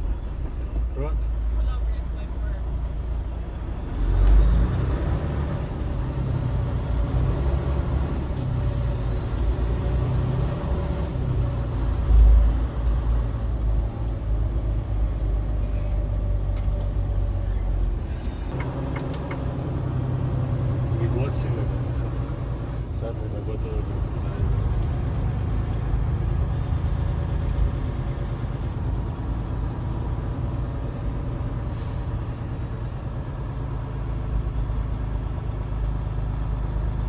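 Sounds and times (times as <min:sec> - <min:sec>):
road noise: 0:00.0 - 0:37.0
truck engine rumble: 0:00.0 - 0:37.0.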